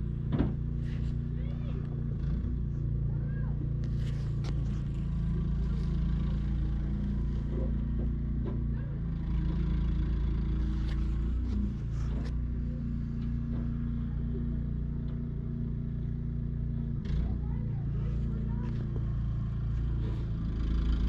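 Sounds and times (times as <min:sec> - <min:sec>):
snowblower engine running: 0:00.0 - 0:21.0.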